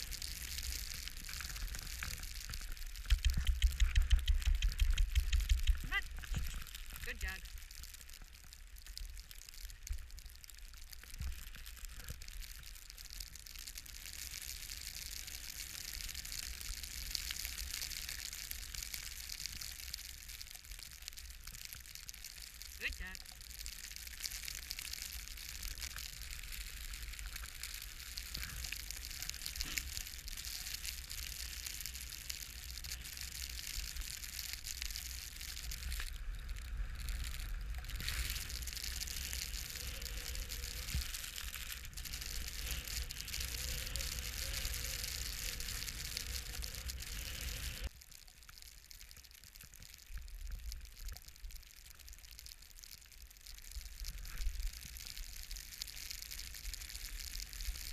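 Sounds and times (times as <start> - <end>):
small crunches and ticks: 0.0 - 57.9.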